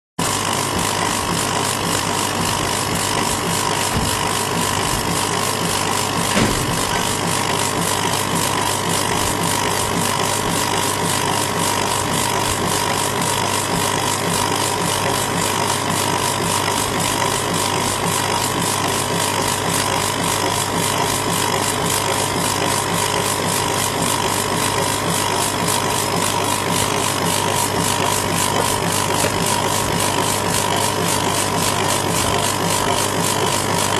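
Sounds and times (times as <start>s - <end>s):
laser engraver mechanical whine: 0.2s - 33.9s.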